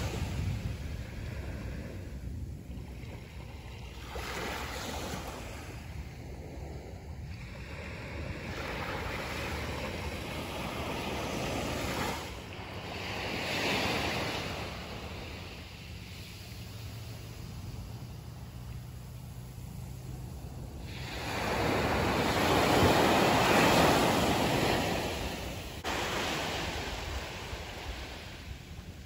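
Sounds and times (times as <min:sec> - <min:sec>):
surf washing up beach: 0:00.0 - 0:29.0
wind buffeting microphone: 0:00.0 - 0:29.0.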